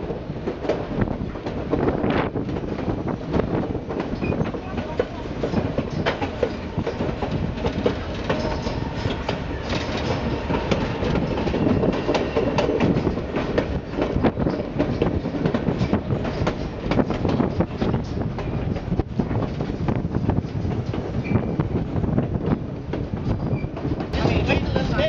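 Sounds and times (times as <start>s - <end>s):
train wheels clattering on rails: 0.0s - 25.0s.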